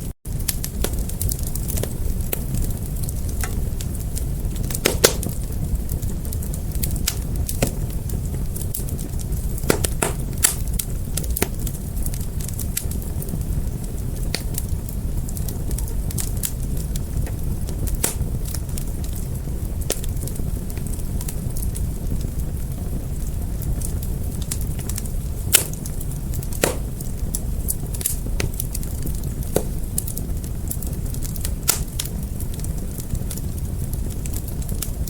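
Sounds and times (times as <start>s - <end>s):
fire crackling and popping: 0.0s - 35.0s.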